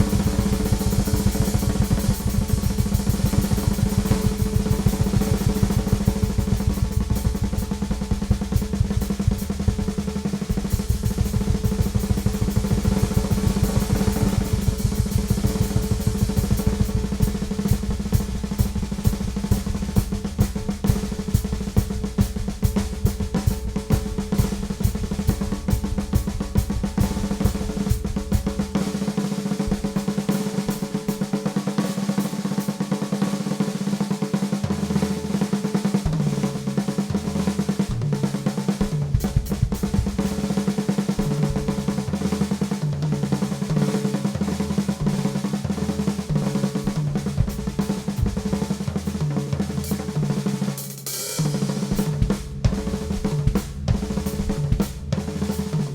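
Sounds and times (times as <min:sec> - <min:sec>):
bass drum: 0:00.0 - 0:29.9, 0:37.3 - 0:43.4, 0:44.8 - 0:50.6, 0:51.4 - 0:55.9
snare drum rolls: 0:00.0 - 0:32.6, 0:38.8 - 0:55.9.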